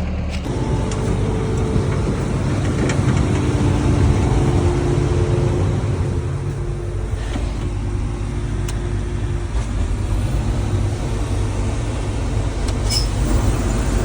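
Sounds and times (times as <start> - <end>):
diesel engine rumbling: 0.0 - 14.0
steady machine tone: 0.5 - 14.0.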